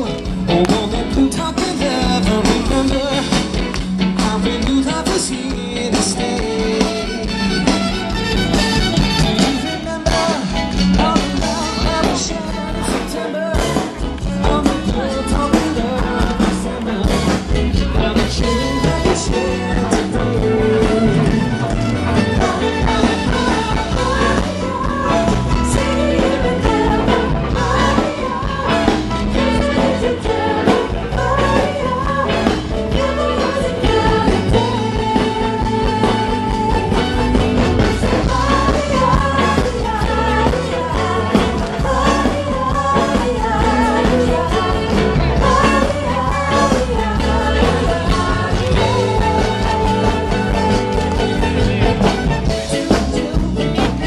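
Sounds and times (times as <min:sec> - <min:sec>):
rock song with lead vocal: 0:00.0 - 0:54.0.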